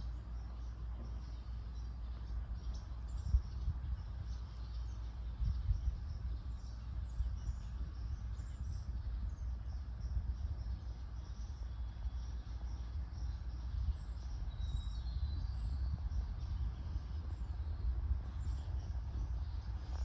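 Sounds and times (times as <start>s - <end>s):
low rumble: 0.0s - 20.0s
small birds chirping: 0.0s - 20.0s.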